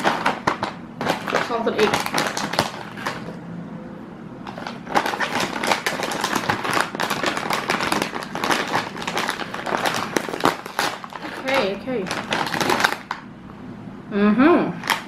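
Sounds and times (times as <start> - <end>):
foil crisp packet crackling: 0.0 - 3.4, 4.5 - 13.2, 14.8 - 15.0.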